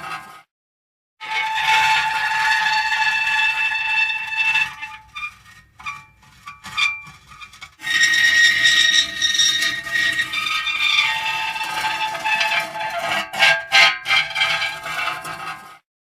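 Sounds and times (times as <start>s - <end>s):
metal creaking and squealing: 1.2s - 15.8s.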